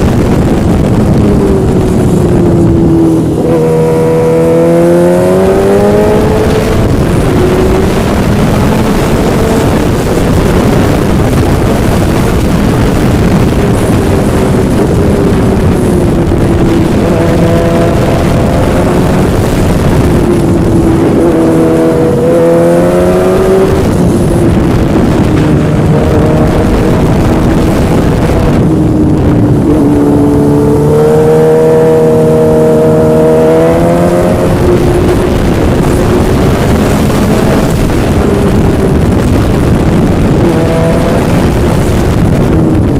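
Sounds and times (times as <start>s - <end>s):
engine accelerating: 0.0s - 42.9s
wind and road noise: 0.0s - 42.9s.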